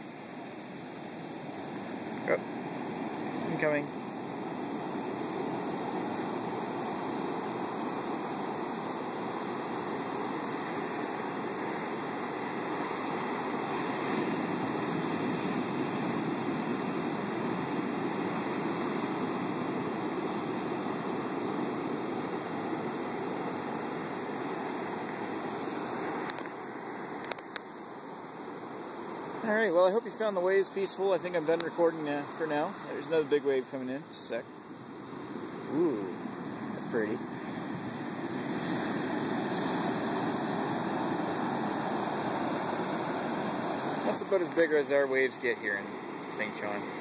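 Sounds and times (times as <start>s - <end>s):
waves breaking on a beach: 0.0s - 47.0s.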